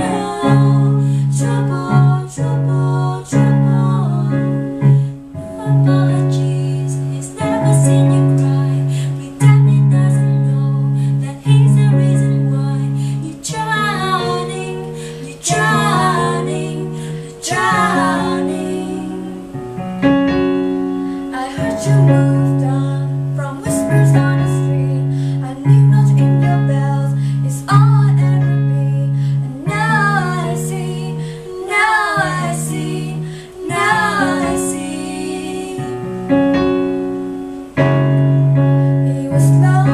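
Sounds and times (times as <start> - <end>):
women singing in harmony: 0.0 - 19.8, 21.0 - 36.5, 38.8 - 39.9
piano chords: 0.0 - 39.9.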